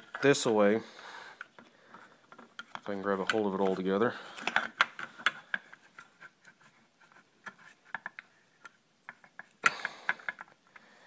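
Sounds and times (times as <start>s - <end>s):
plastic and metal clicks and scrapes: 1.4s - 10.6s.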